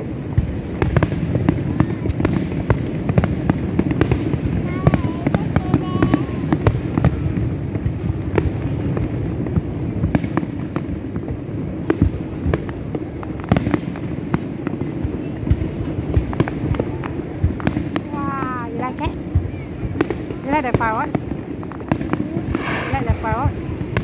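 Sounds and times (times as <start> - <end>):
distant fireworks booms: 0.0 - 24.0
fireworks bangs and crackles: 0.0 - 24.0.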